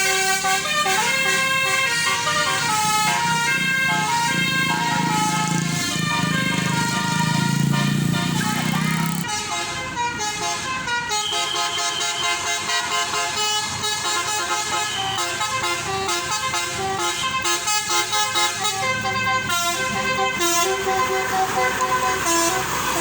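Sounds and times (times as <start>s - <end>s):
bus musical horn playing a tune: 0.0s - 23.0s.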